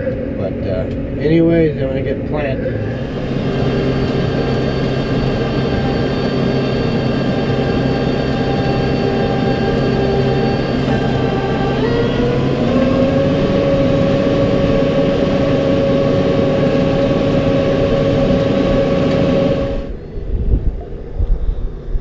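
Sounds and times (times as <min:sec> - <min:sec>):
tractor engine running: 0:02.8 - 0:21.2.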